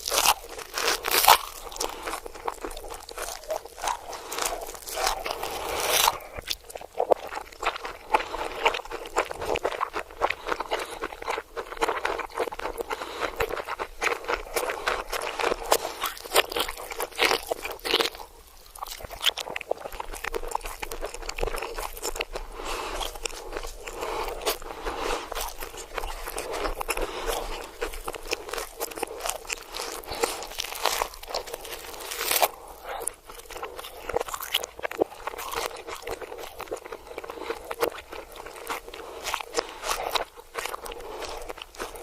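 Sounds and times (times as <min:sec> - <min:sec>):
crunching and chewing played backwards: 0:00.0 - 0:42.0.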